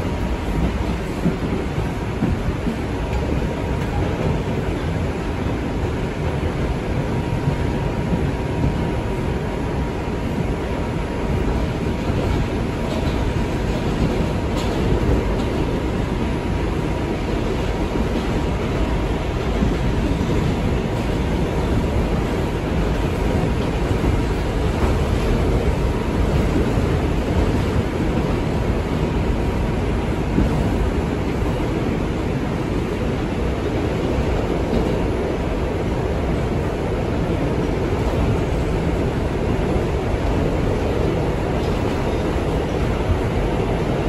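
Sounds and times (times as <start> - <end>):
subway wheels rumbling on rail: 0.0 - 44.0.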